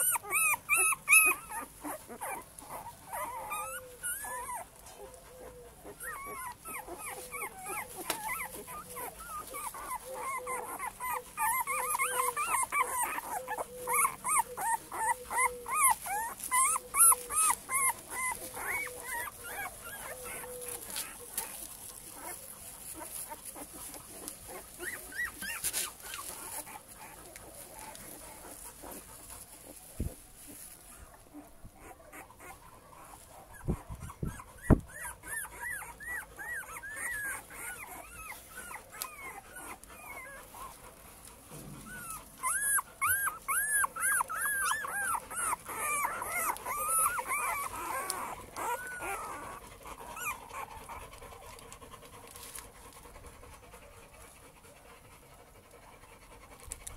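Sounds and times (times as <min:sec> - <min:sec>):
puppies whimpering: 0:00.0 - 0:55.8.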